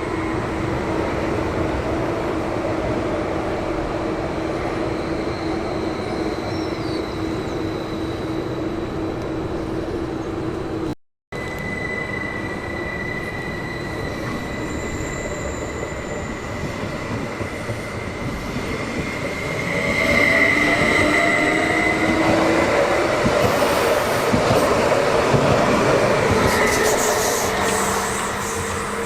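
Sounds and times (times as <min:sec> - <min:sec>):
train whining tone: 0:00.0 - 0:29.0.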